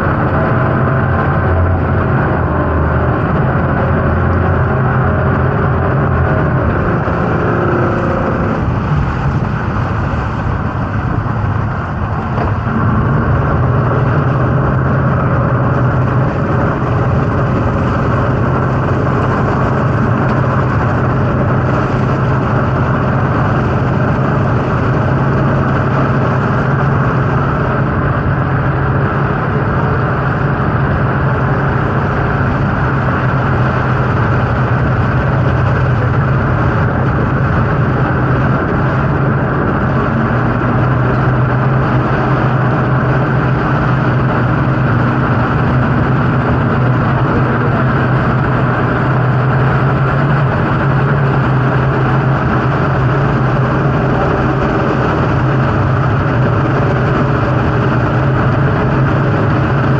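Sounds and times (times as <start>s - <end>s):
outboard motors droning: 0.0s - 59.9s
rush of boat wake: 0.0s - 59.9s.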